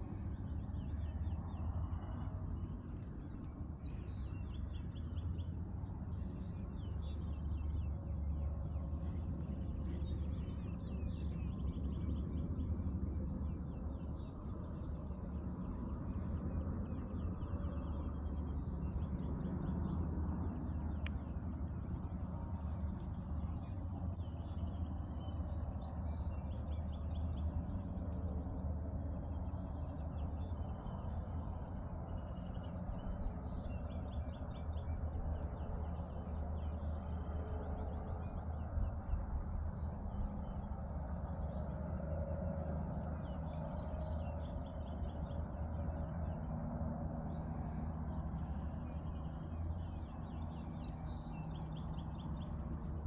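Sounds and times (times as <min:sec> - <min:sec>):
songbirds chirping and trilling: 0:00.0 - 0:53.0
steady low rumble: 0:00.0 - 0:53.0.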